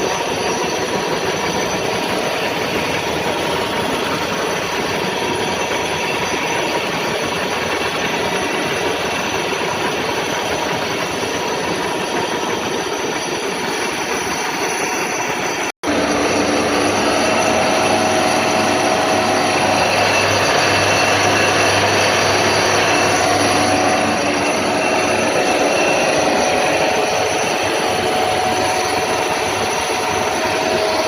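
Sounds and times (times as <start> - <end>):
milling machine whirring: 0.0 - 31.0.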